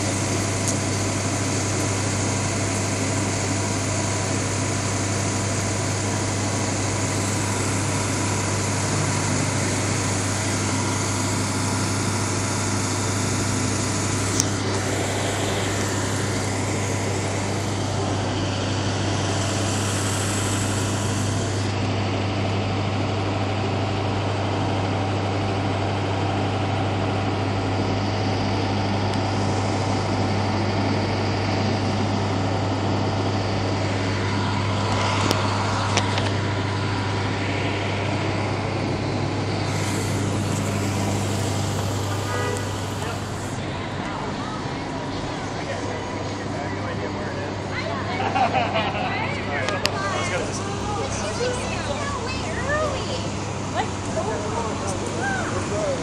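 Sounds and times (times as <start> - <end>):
ambulance engine idling: 0.0 - 56.0.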